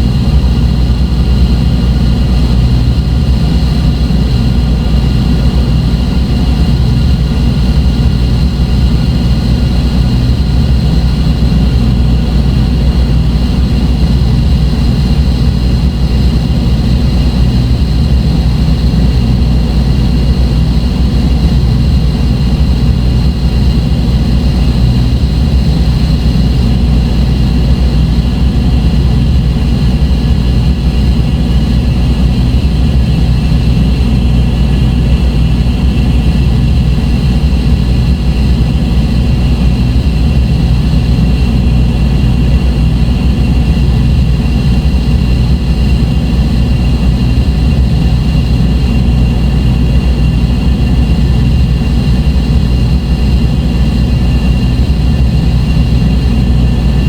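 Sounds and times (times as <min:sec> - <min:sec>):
dark ambient electronic drone: 0:00.0 - 0:57.0.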